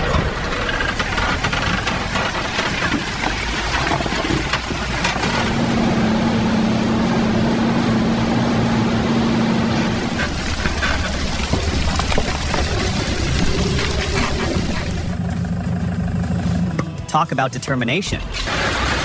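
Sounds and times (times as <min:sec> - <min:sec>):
engine running with clatter: 0:00.0 - 0:17.1, 0:18.3 - 0:19.0.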